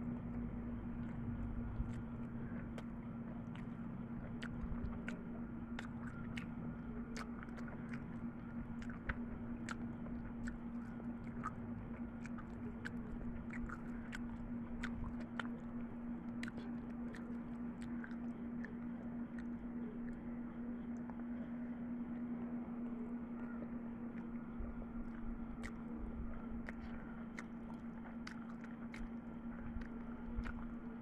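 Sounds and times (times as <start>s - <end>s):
person chewing: 0.0s - 22.3s, 22.9s - 31.0s
steady low hum: 0.0s - 31.0s.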